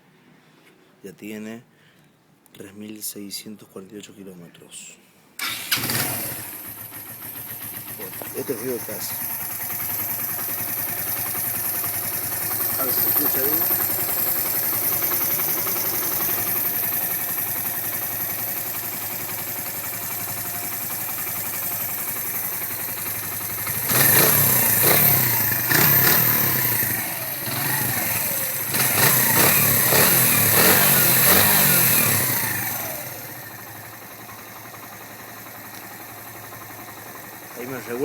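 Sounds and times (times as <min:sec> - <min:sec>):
motorcycle engine idling and revving: 0:05.4 - 0:38.0.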